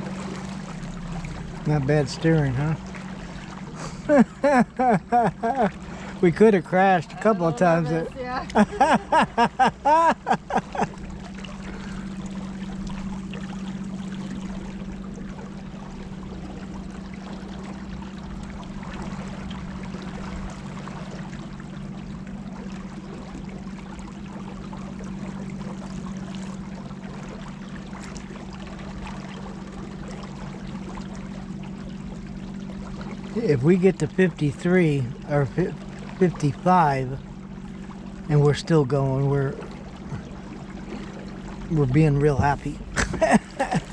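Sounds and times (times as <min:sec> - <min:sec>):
river water trickling and gurgling: 0:00.0 - 0:43.9
steady low hum: 0:00.0 - 0:43.9.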